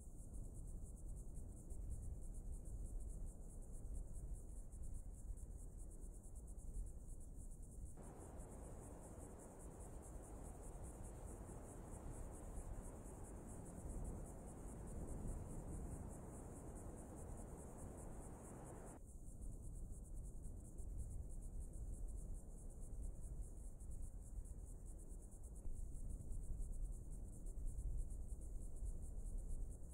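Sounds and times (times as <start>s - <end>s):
crickets chirring: 0.0s - 29.9s.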